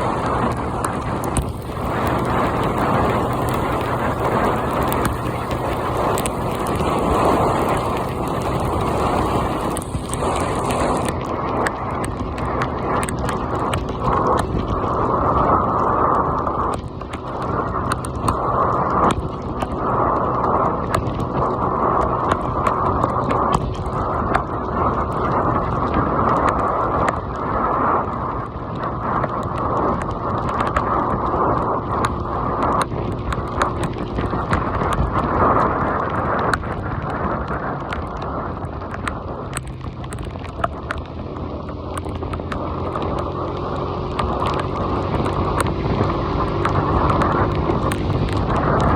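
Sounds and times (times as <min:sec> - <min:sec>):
heavy rain falling: 0:00.0 - 0:48.9
raindrops tapping near microphone: 0:00.0 - 0:48.9.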